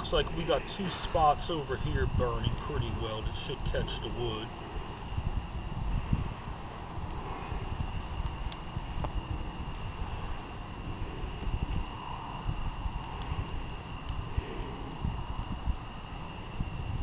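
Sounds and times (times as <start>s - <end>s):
high-pitched insect trill: 0.0s - 17.0s
wind buffeting microphone: 0.0s - 17.0s.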